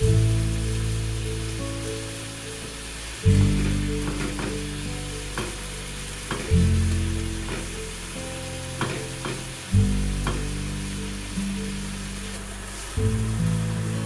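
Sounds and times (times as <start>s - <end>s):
background music chords: 0.0s - 14.0s
broth simmering and sizzling in a pan: 0.0s - 14.0s.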